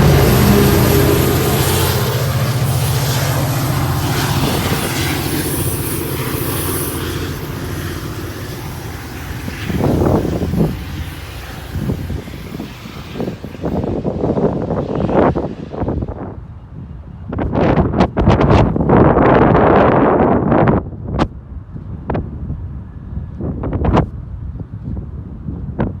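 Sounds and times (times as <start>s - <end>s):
passing train rumble: 0.0s - 25.8s
wind buffeting microphone: 0.0s - 26.0s.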